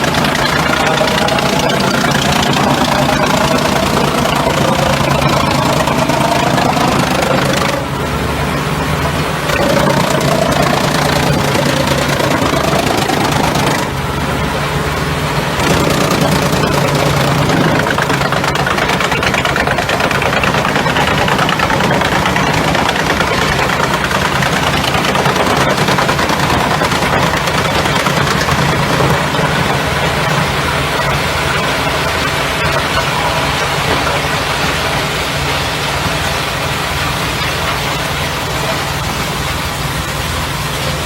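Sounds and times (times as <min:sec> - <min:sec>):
rising mechanical whine: 0:00.0 - 0:41.0
wood chipper running: 0:00.0 - 0:41.0.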